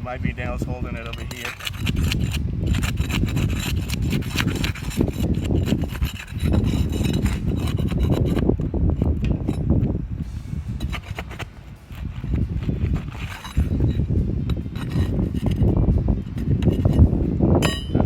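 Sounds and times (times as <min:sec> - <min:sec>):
pry bar scraping under shingles: 0:00.8 - 0:09.9, 0:10.6 - 0:18.0.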